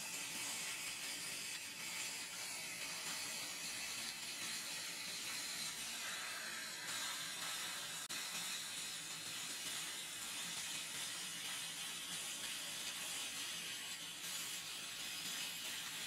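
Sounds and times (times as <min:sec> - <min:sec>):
laser cutter hissing through steel: 0:00.0 - 0:16.0.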